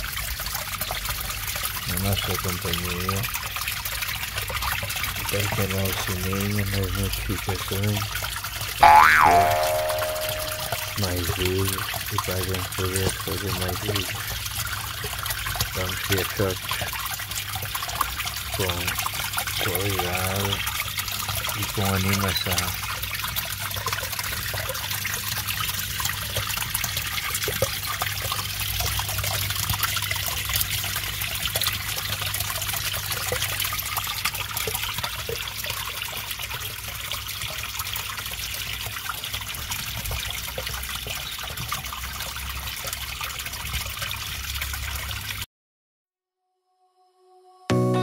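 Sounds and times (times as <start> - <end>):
filter water trickling and splashing: 0.0 - 45.5.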